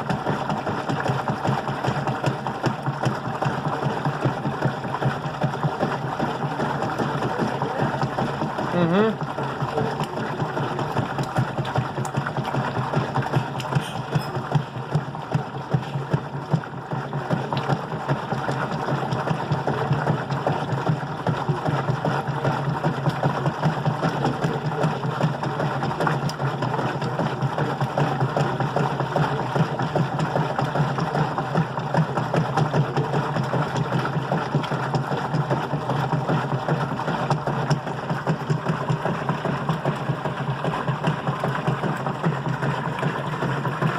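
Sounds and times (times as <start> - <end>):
washing machine motor pulsing hum: 0.0 - 43.9.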